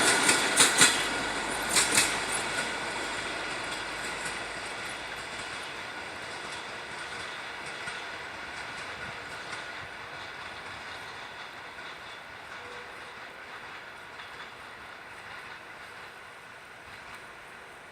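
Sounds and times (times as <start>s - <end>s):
passenger train rolling past: 0.0s - 17.9s.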